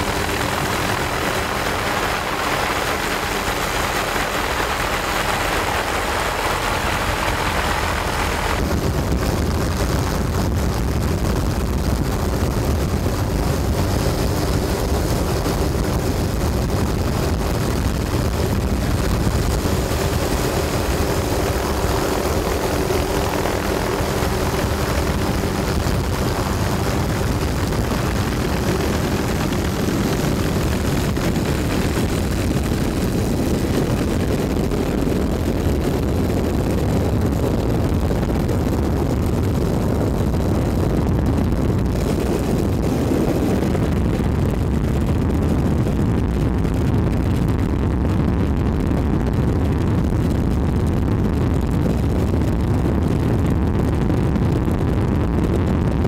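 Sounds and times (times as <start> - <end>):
aircraft engine and propeller drone: 0.0 - 47.8, 48.5 - 56.0.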